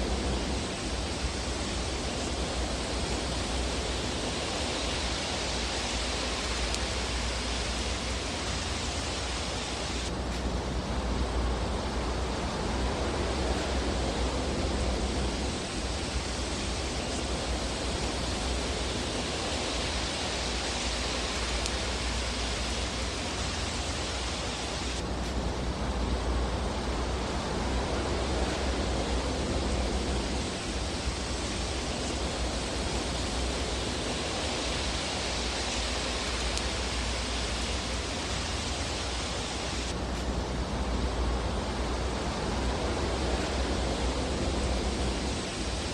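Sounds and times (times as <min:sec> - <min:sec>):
fire crackles: 0:00.0 - 0:45.9
fireplace fire hissing: 0:00.0 - 0:45.9.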